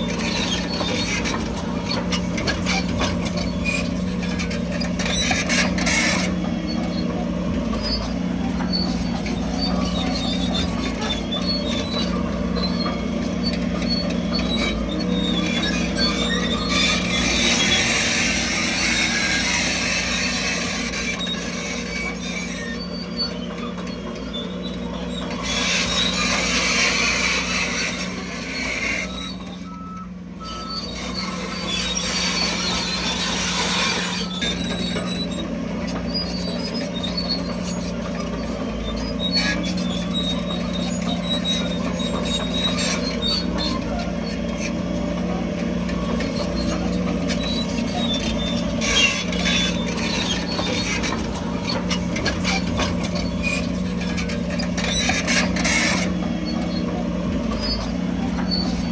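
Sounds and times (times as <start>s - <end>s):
bulldozer engine droning: 0.0s - 58.9s
grinding and scraping: 0.0s - 58.9s.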